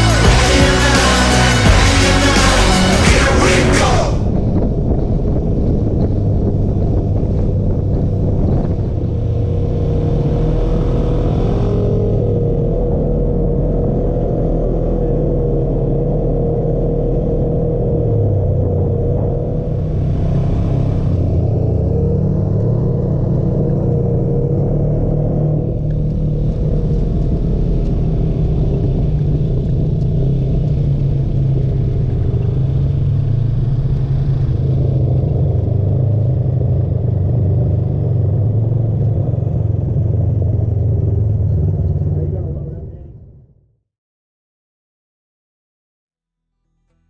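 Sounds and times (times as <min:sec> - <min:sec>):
utility vehicle engine droning: 0:00.0 - 0:43.8.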